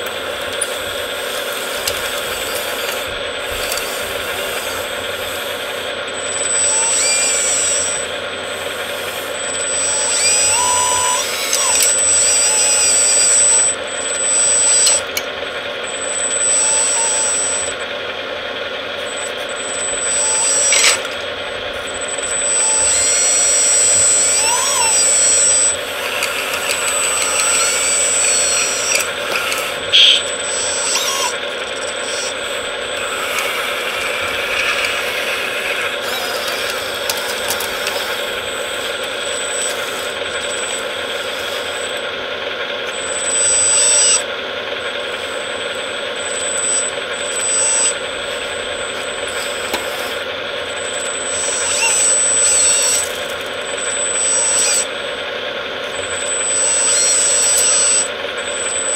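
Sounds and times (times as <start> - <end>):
hydraulic pump whining: 0.0 - 58.9.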